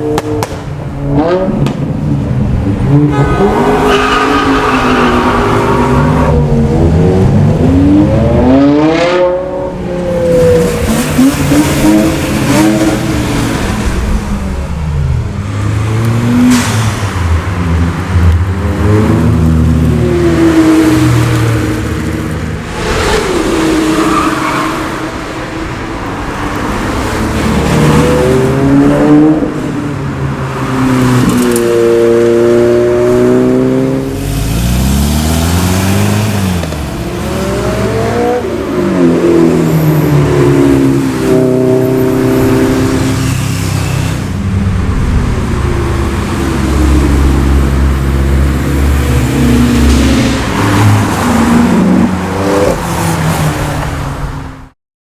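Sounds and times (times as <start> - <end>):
cars accelerating past: 2.7 - 54.5.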